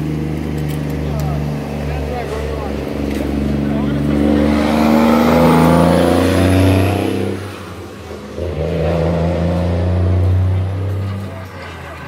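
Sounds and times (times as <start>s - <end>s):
dump truck diesel engine passing: 0.0s - 12.0s
vehicle engine: 0.0s - 12.0s.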